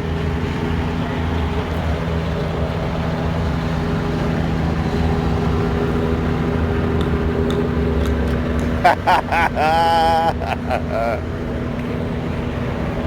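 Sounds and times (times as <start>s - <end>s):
helicopter flying low overhead: 0.0s - 13.0s.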